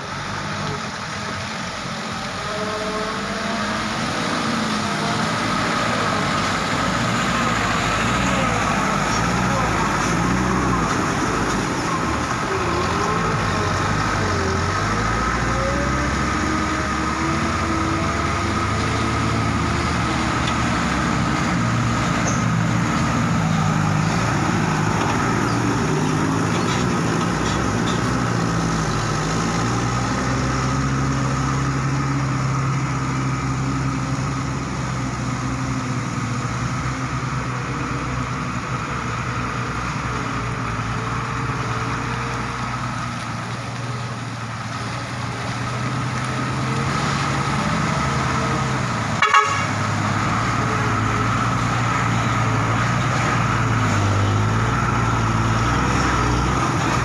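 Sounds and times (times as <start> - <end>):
diesel truck engines revving: 0.0 - 57.0.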